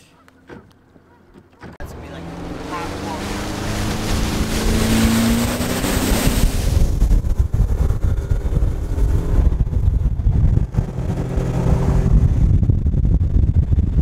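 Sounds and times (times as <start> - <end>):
wind buffeting microphone: 1.7 - 14.0.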